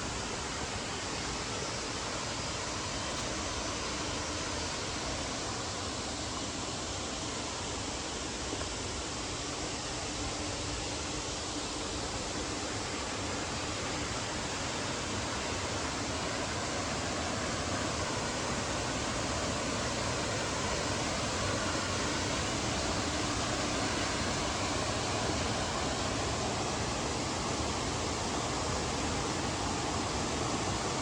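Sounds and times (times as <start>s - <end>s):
water rushing in a stream: 0.0s - 31.0s.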